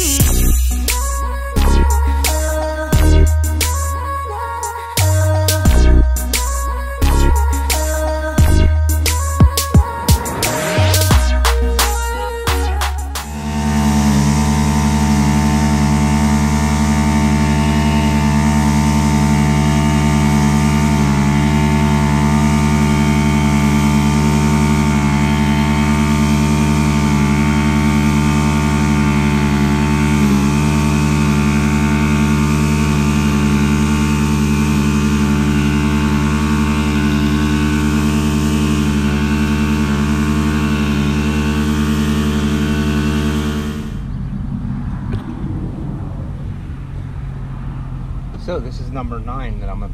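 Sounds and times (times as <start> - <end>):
small petrol engine running: 0.0 - 44.4.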